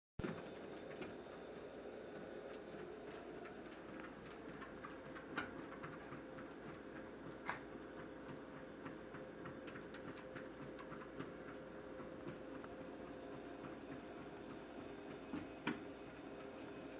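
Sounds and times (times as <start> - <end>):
treadmill motor hum: 0.2 - 16.9.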